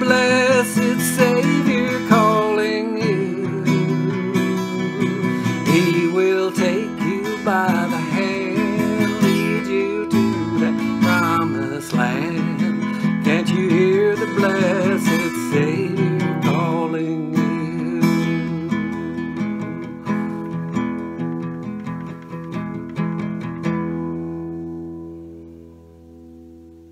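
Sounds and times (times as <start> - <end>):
acoustic guitar strumming: 0.0 - 26.9.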